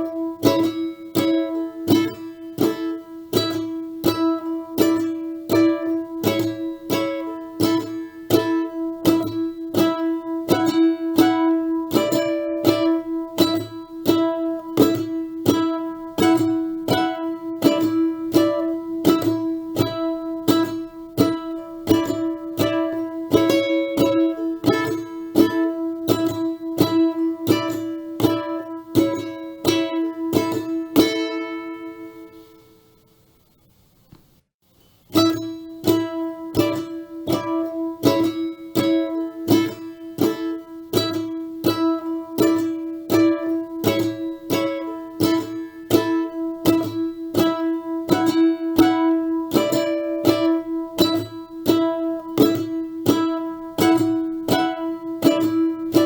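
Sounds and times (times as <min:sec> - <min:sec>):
plucked string instrument: 0:00.0 - 0:33.1, 0:35.1 - 0:56.0.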